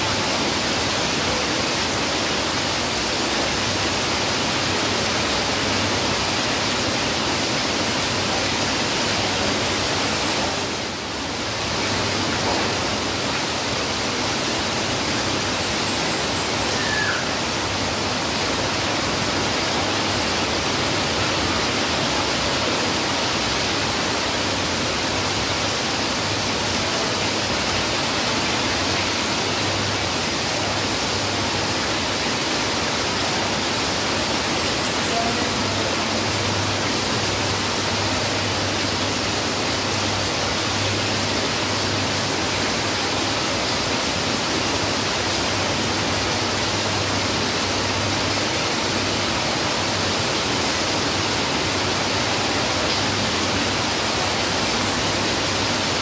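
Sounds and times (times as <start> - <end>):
heavy rain falling: 0.0 - 56.0
water streaming off roof: 0.0 - 56.0.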